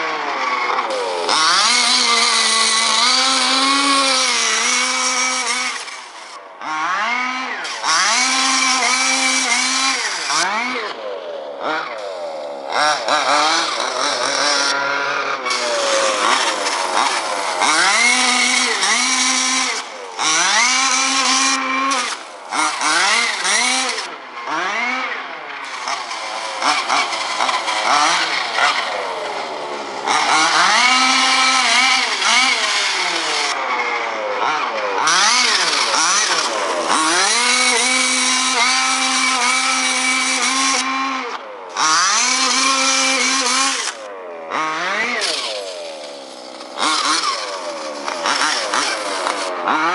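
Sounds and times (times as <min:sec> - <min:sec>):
rc buggy engine revving: 0:00.0 - 0:49.9.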